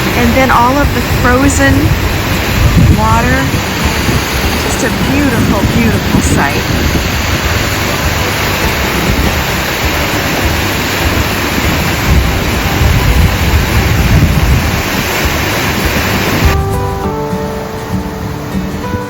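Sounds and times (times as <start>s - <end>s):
low rumble of water: 0.0s - 16.6s
waterfall rushing: 0.0s - 19.0s.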